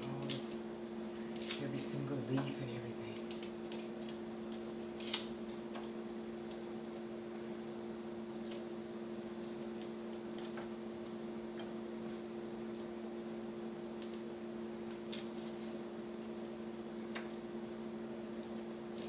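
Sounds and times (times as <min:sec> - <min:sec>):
herb leaves crinkling: 0:00.0 - 0:05.7, 0:06.5 - 0:11.5, 0:12.2 - 0:19.0
low electrical hum: 0:00.0 - 0:19.0.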